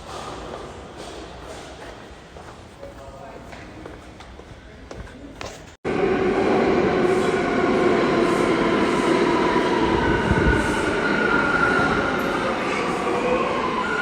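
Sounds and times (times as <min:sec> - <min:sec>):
subway train running: 0:00.0 - 0:14.0.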